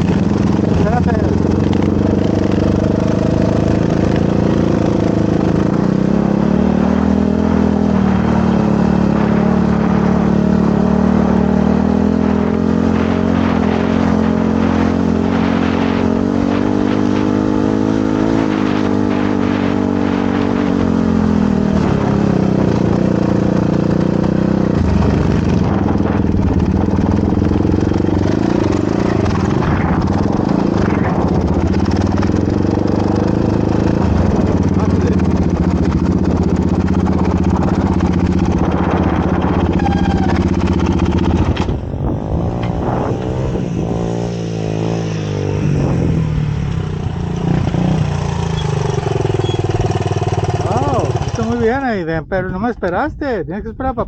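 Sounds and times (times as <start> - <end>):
motorcycle engine revving: 0.0 - 51.8.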